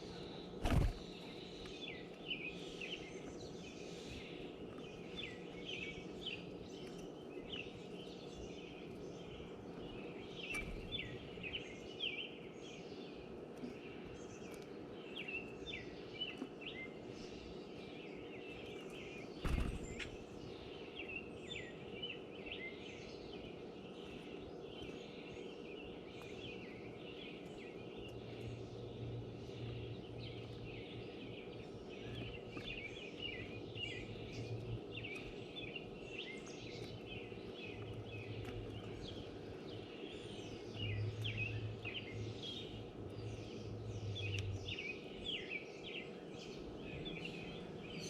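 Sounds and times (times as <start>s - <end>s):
low background hum: 0.0s - 48.0s
small birds chirping: 0.0s - 48.0s.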